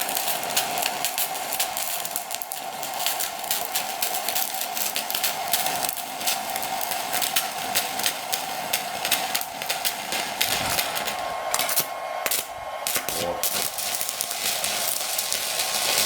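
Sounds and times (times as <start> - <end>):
steady high hum: 0.0 - 15.9
welding arc crackling: 0.0 - 16.0.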